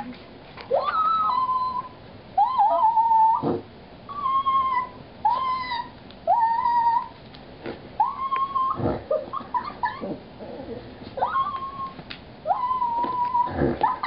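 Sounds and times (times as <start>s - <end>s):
dog whining and howling: 0.7s - 7.2s, 8.0s - 14.0s.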